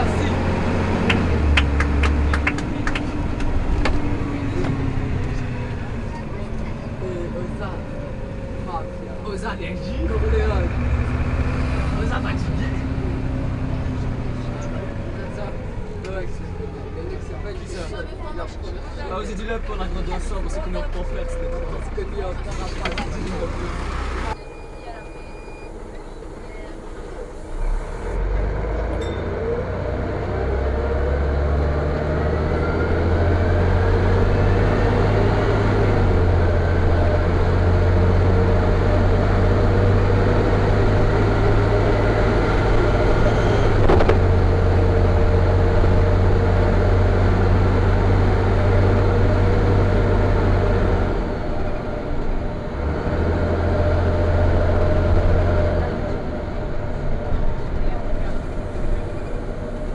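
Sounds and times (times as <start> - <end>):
bus engine rumble: 0.0 - 59.9.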